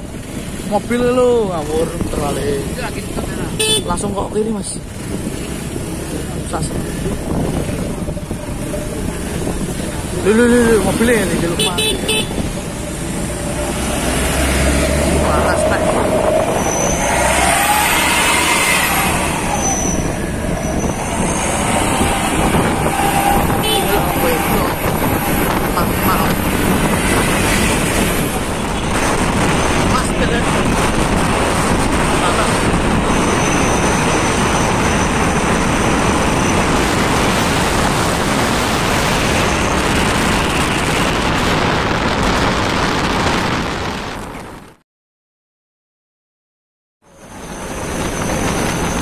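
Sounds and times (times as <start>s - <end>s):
road noise: 0.0s - 44.8s, 47.0s - 49.0s
truck engine rumble: 0.0s - 44.8s.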